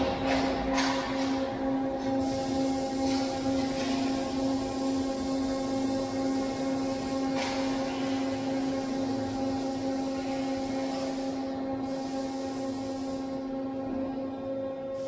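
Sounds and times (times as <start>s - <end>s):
industrial machine hum: 0.0s - 15.0s.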